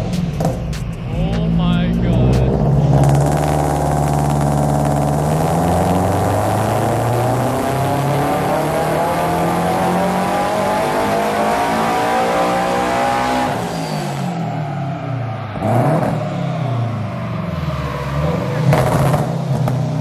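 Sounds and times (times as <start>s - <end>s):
car engine revving on a dyno: 2.0s - 20.0s.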